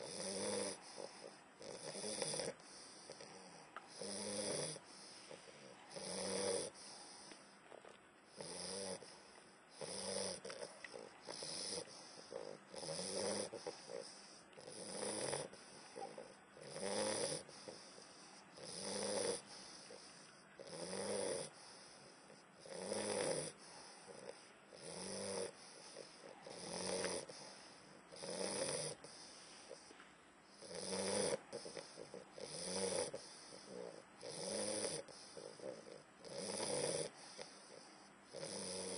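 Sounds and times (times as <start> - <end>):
dog snoring: 0.0 - 7.5, 8.3 - 38.9.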